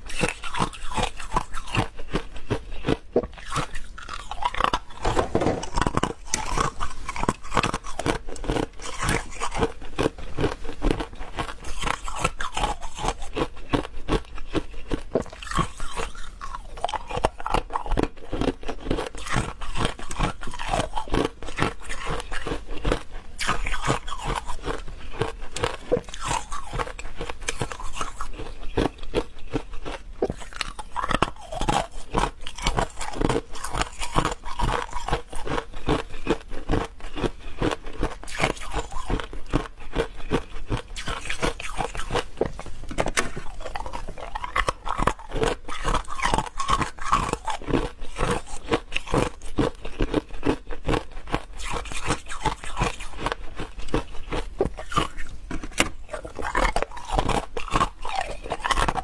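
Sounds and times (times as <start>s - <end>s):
ice cubes being chewed: 0.0s - 59.0s.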